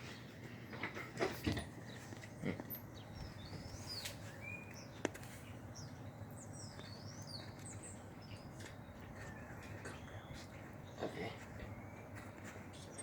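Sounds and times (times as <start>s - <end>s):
birds chirping: 0.0s - 13.0s
low background noise: 0.0s - 13.0s.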